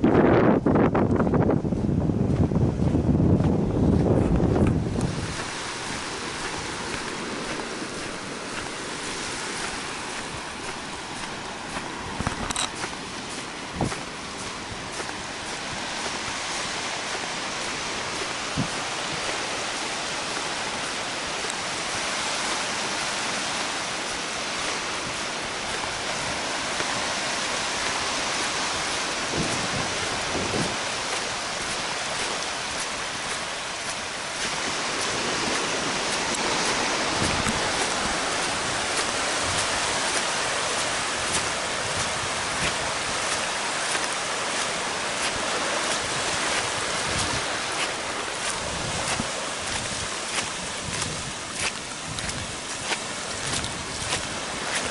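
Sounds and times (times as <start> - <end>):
small waves on sandy beach: 0.0 - 54.9.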